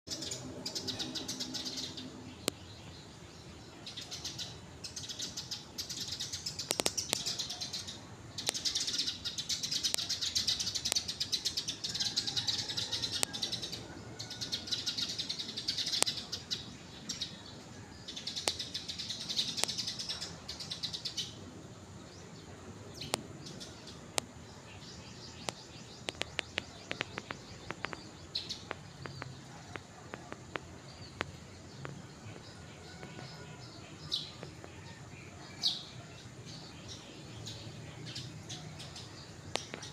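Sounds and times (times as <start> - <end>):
small birds twittering: 0.1 - 39.9.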